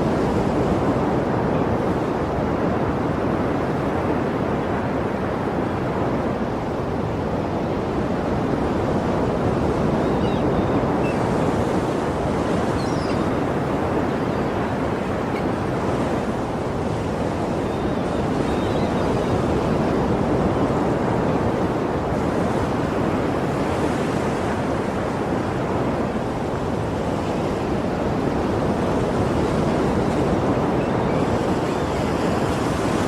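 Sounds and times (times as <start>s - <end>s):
sea waves washing on shore: 0.0s - 33.0s.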